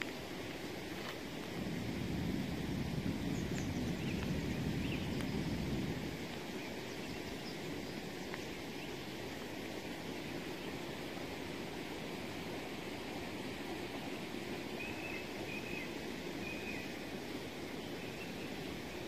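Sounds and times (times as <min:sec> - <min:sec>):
low rumbling outdoor noise: 0:00.0 - 0:19.0.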